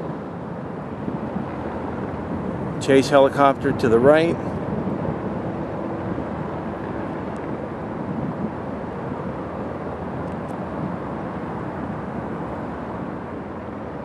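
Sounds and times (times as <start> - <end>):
distant aircraft engine rumble: 0.0 - 14.0.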